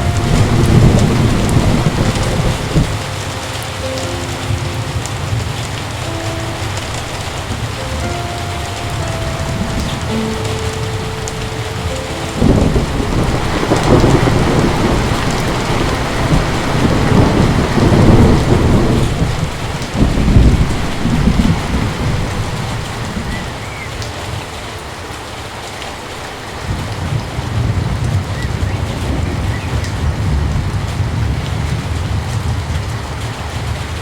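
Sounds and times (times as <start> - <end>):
thunder rumbling: 0.0 - 24.6, 26.1 - 34.0
heavy rain pouring: 0.0 - 34.0.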